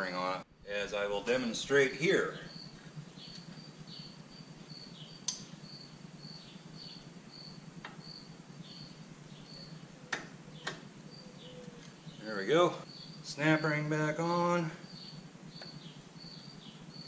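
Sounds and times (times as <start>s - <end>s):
cricket chirping: 1.7s - 17.0s.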